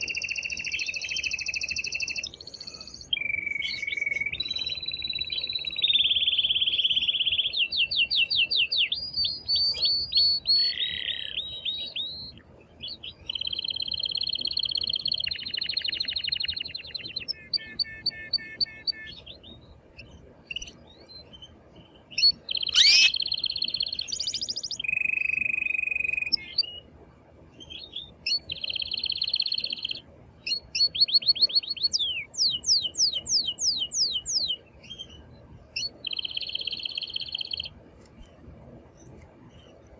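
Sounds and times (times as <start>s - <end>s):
canary singing trills: 0.0s - 26.9s, 27.6s - 37.7s.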